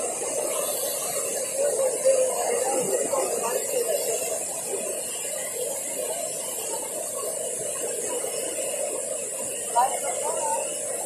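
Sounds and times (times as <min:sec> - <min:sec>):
water rushing from spillway: 0:00.0 - 0:11.0.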